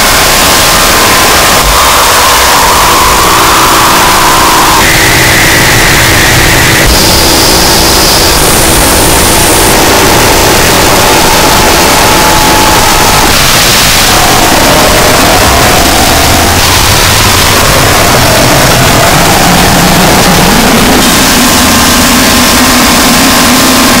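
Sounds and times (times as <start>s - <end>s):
distorted electronic noise: 0.0s - 24.0s
steady low hum: 0.0s - 24.0s.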